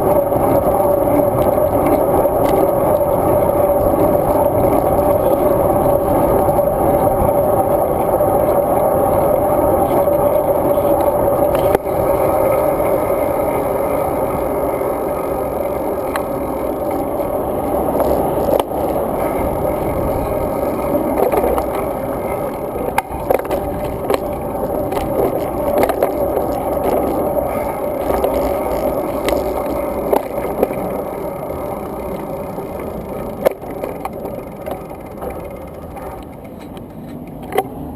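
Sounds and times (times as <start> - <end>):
bike clicks and rattles: 0.0 - 37.9
wind and tyre noise: 0.0 - 37.9.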